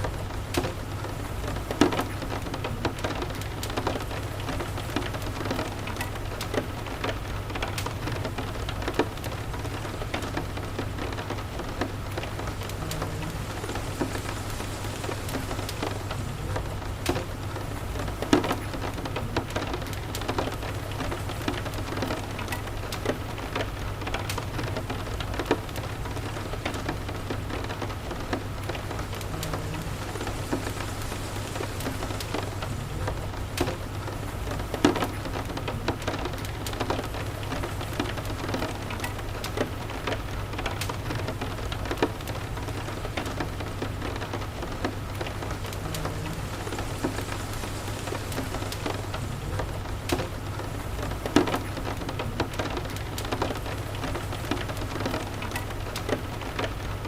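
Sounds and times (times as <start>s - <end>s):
steady rain: 0.0s - 57.0s
wood fire crackling and popping: 0.0s - 57.0s.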